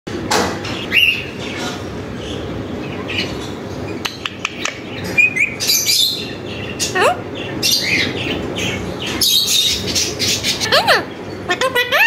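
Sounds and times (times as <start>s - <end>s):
steady background noise: 0.1s - 12.0s
parakeets chirping: 0.6s - 12.0s.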